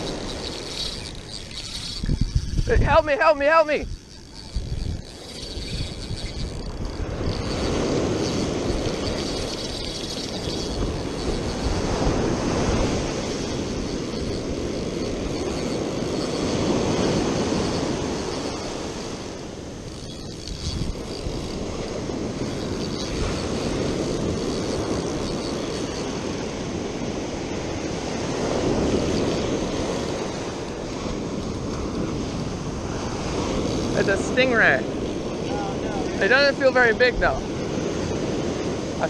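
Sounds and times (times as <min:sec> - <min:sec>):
ocean waves washing on sand: 0:00.0 - 0:39.0.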